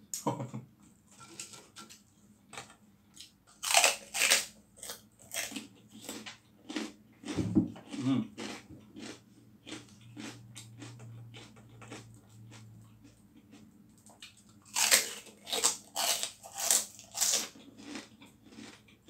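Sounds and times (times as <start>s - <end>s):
crunching crispy pork rind: 3.2s - 19.0s.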